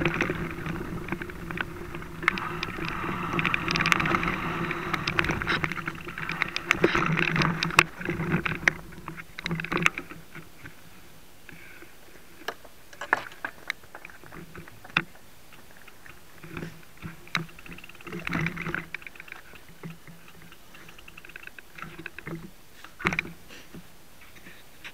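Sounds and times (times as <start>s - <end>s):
bike clicks and knocks: 0.0s - 10.8s, 12.4s - 23.4s
mountain bike rattling: 0.0s - 11.0s, 11.6s - 23.6s.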